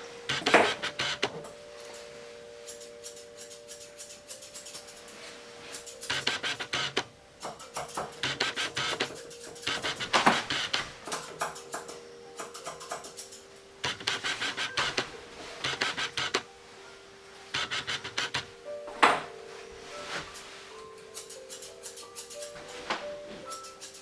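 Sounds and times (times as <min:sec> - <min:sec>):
faint steady hum: 0:00.0 - 0:22.5
shears snipping fur: 0:00.3 - 0:16.5, 0:17.6 - 0:18.5, 0:19.8 - 0:24.0.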